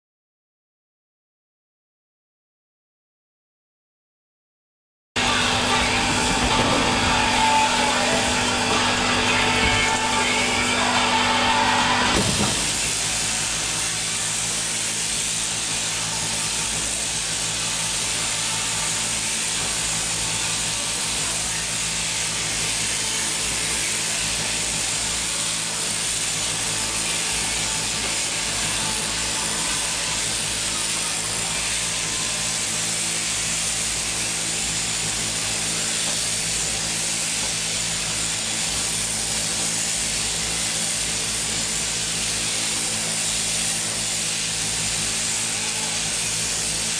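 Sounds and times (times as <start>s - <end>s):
shearing handpiece humming: 5.2s - 46.9s.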